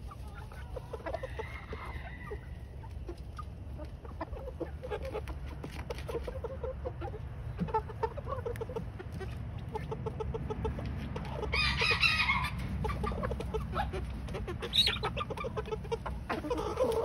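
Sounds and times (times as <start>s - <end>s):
young chickens clucking softly: 0.0s - 17.0s.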